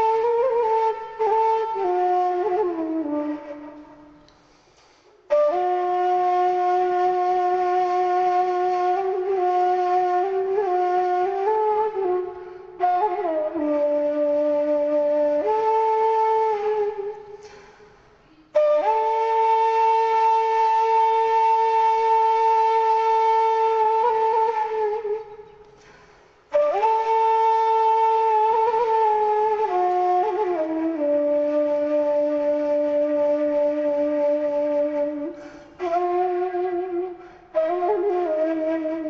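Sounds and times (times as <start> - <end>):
flute-like wind instrument: 0.0 - 4.4, 5.0 - 17.6, 18.2 - 25.9, 26.5 - 39.0.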